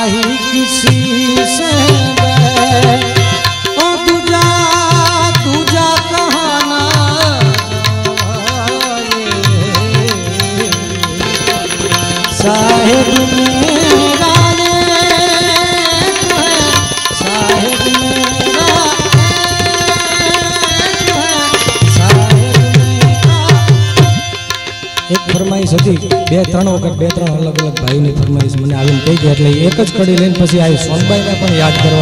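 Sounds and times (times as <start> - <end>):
harmonium: 0.0 - 32.0
man singing: 0.0 - 32.0
tabla drumming: 0.0 - 32.0.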